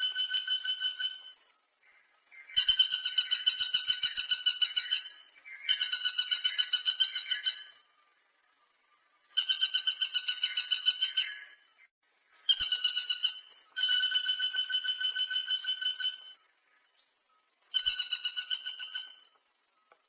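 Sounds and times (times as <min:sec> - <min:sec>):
woodpecker call: 0:00.0 - 0:08.6, 0:09.2 - 0:20.0.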